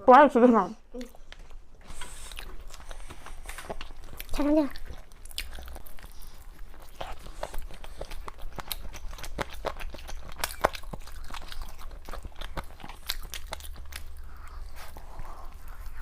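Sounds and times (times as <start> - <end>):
crunchy chewing of food: 1.0 - 16.0.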